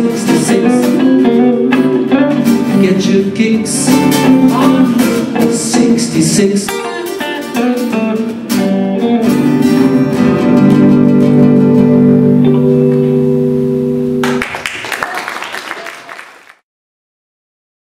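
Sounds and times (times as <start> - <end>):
rock and roll guitars playing: 0.0 - 14.4.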